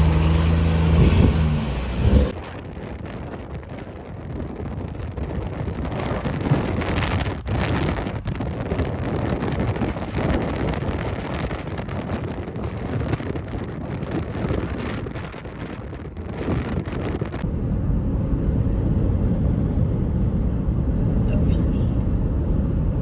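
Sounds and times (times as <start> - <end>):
strong wind gusting on microphone: 0.0 - 23.0.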